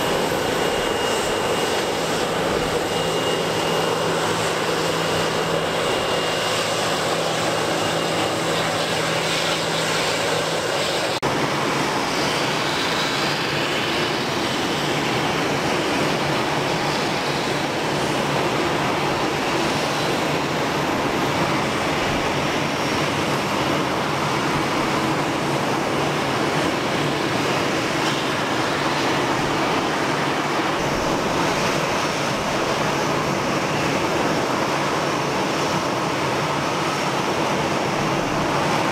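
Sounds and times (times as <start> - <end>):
jet engines humming and whining: 0.0 - 38.9.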